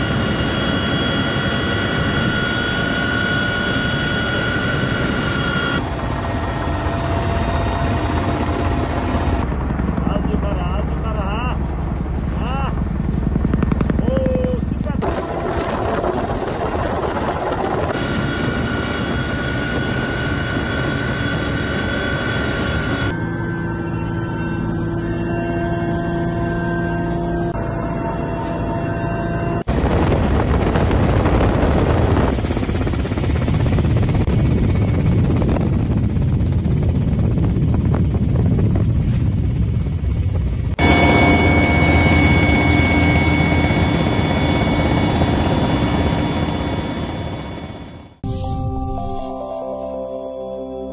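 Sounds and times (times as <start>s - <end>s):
steady whine: 0.0s - 13.8s, 14.8s - 50.9s
helicopter engine and rotor noise: 0.0s - 48.2s.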